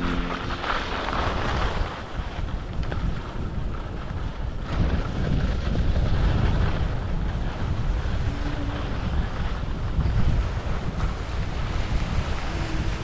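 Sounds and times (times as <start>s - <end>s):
skis sliding over snow: 0.0s - 13.0s
wind buffeting microphone: 0.0s - 13.0s.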